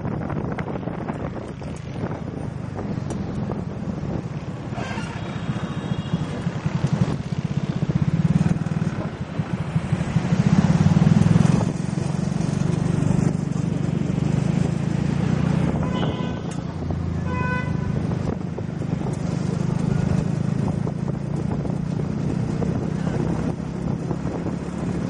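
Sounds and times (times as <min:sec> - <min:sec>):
motorcycle engine running: 0:00.3 - 0:25.0.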